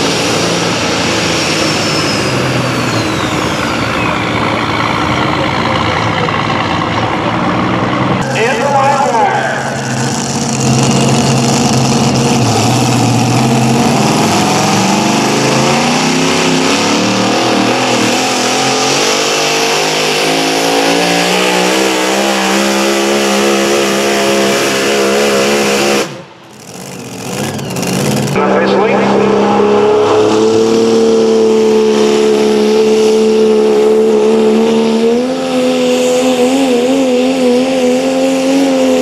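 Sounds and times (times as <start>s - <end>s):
tractor engine at full throttle: 0.0s - 39.0s.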